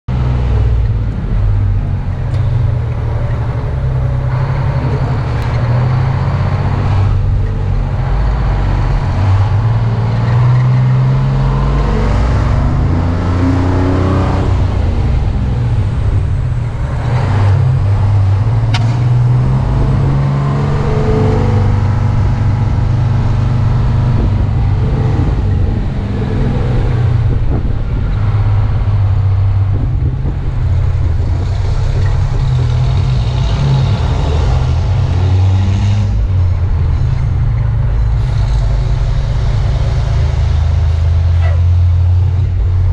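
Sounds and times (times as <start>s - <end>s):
road and wind noise: 0.1s - 42.9s
truck engine running: 0.1s - 42.9s.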